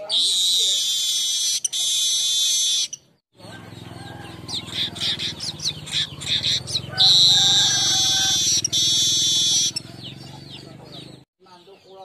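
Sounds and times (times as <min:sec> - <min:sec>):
bird chattering chirps: 0:00.2 - 0:12.0.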